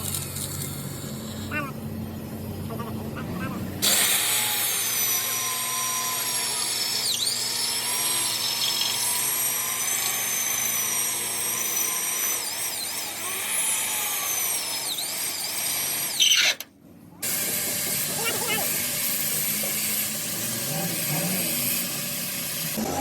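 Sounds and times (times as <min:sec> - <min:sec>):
electric power tool whining: 0:03.8 - 0:23.0.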